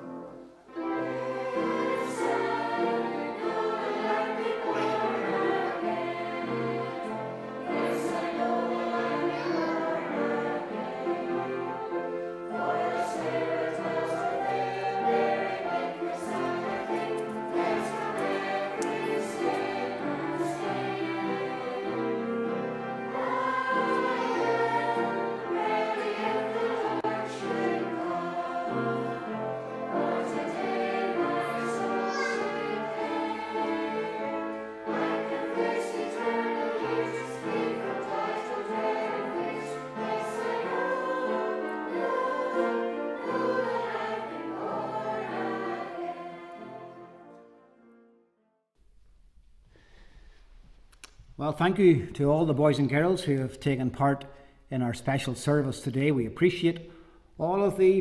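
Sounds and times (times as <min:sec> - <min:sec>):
children's choir singing: 0:00.0 - 0:47.8.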